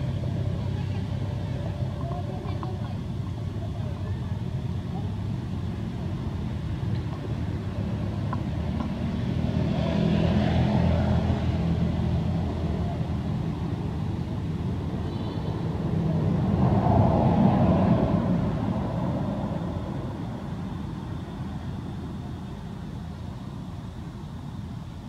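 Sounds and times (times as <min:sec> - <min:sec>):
vehicle engine humming: 0:00.0 - 0:25.0
vehicles passing: 0:00.0 - 0:25.0.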